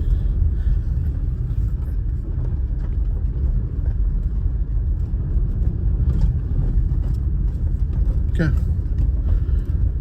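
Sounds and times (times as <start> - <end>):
car tyres and engine rumbling: 0.0 - 10.0.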